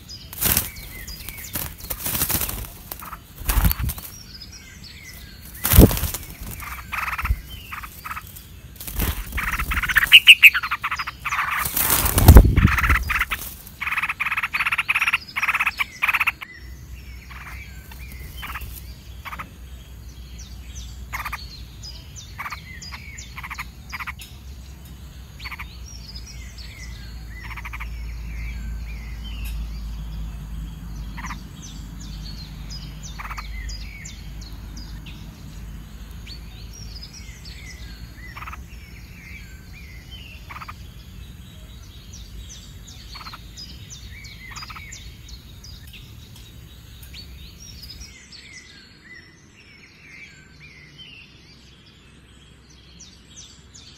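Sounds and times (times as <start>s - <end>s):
high chirping ticks: 0.0s - 16.5s, 17.2s - 48.1s
frogs croaking: 0.0s - 48.2s.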